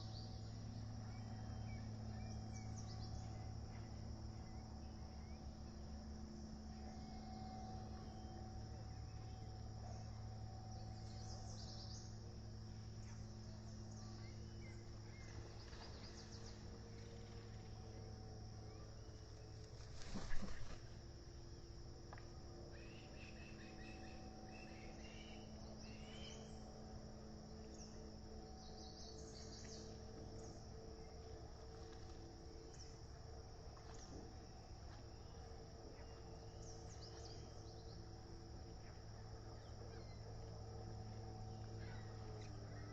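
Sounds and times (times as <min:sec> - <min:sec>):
crickets chirping: 0:00.0 - 0:42.9
low steady hum: 0:00.0 - 0:42.9.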